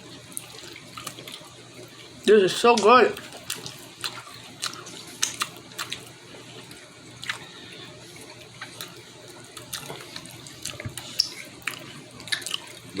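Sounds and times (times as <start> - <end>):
person chewing: 0.3 - 2.2, 3.2 - 13.0.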